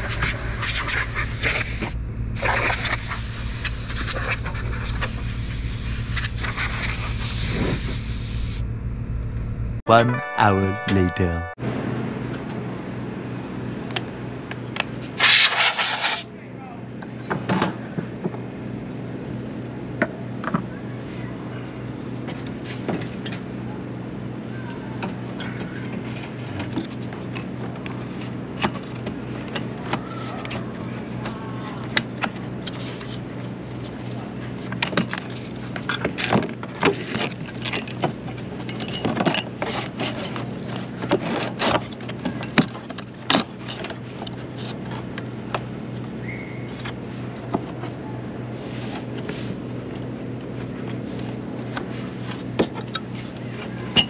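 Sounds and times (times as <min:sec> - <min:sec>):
low mechanical hum: 0:00.0 - 0:09.8, 0:11.2 - 0:54.0.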